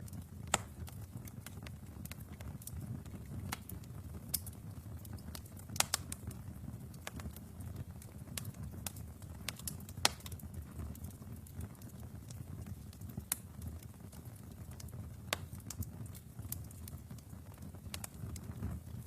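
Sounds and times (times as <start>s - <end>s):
fire crackling and popping: 0.0s - 19.0s
low rumble of fire: 0.0s - 19.0s.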